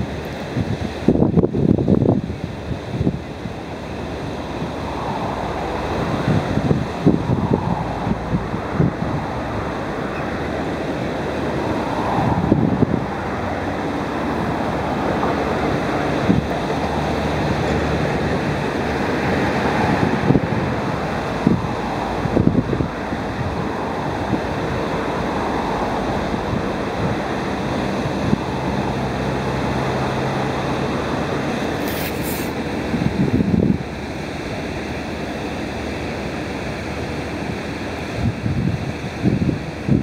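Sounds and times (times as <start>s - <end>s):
wind rushing across microphone: 0.0s - 40.0s.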